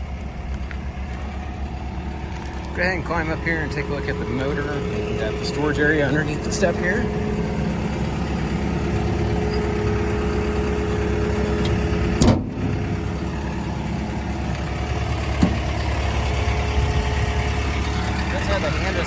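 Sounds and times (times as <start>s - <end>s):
excavator diesel engine idling: 0.0s - 19.0s.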